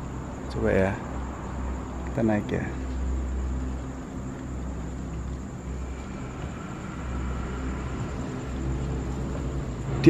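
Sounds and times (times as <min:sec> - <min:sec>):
faint high whine: 0:00.0 - 0:10.0
low background rumble with hiss: 0:00.0 - 0:10.0.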